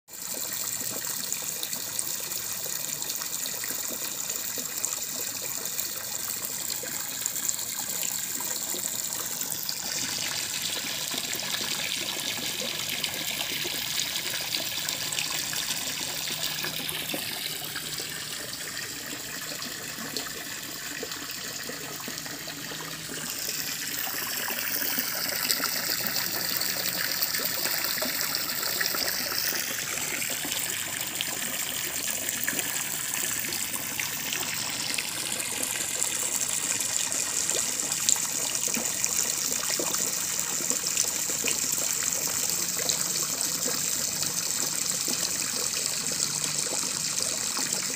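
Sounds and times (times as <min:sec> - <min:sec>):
running water: 0:00.1 - 0:47.9.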